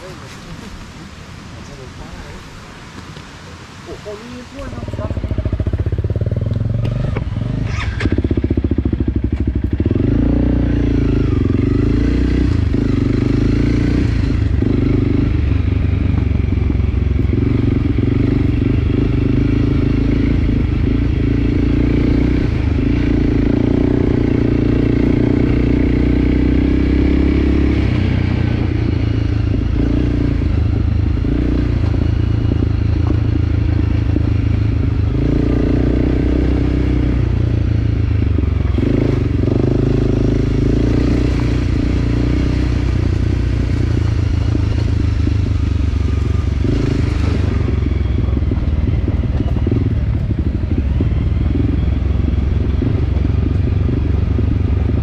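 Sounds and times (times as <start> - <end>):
dirt bike engine: 3.9 - 55.0.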